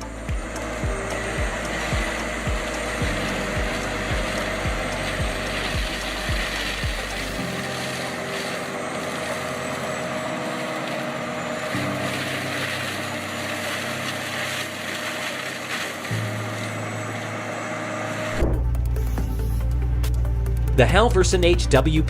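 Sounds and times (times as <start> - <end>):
heavy machine engine running: 0.0 - 21.6
background music: 0.0 - 22.0.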